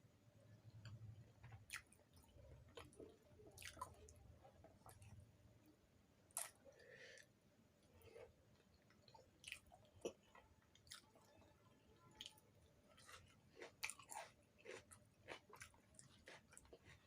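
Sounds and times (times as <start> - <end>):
person chewing food: 0.6 - 5.2, 6.3 - 17.0.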